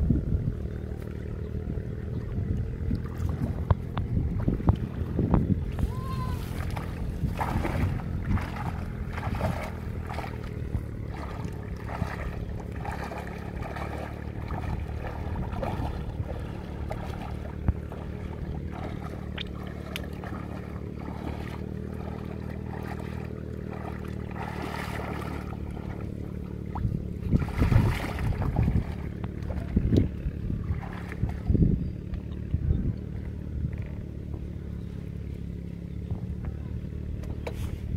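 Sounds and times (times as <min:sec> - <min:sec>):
person wading through muddy water: 0:00.0 - 0:36.0
steady low drone: 0:00.0 - 0:37.9
water splashing: 0:00.9 - 0:32.5.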